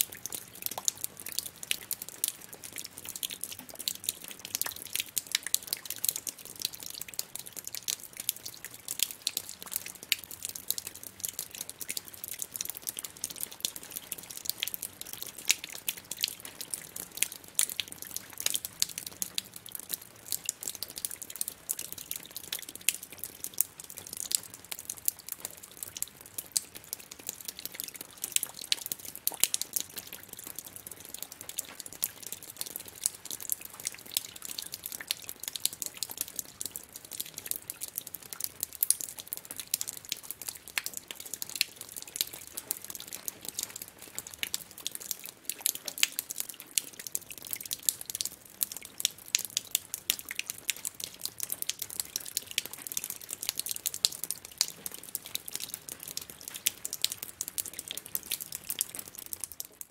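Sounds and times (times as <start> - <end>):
water dripping: 0.0 - 59.9.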